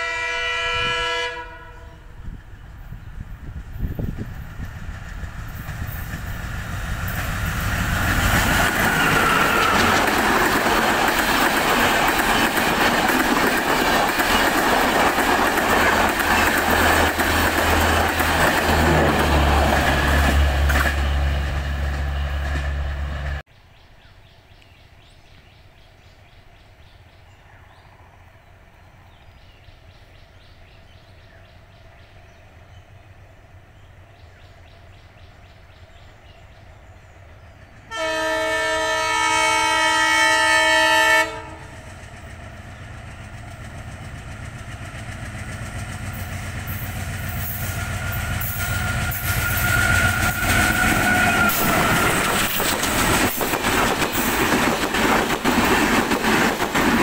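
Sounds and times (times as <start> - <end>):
train wheels rolling past: 2.0 - 23.4, 26.5 - 57.0.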